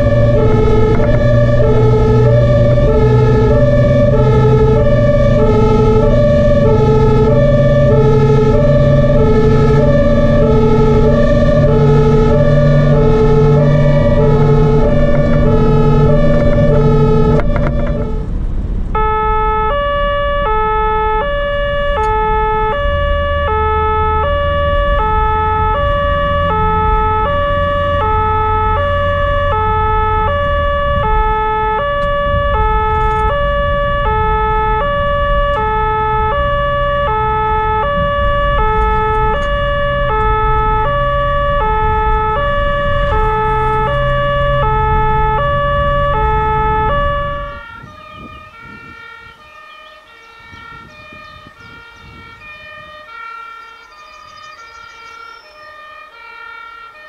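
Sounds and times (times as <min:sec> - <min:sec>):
two-tone emergency siren: 0:00.0 - 0:57.0
vehicle engine and road noise: 0:00.0 - 0:57.0.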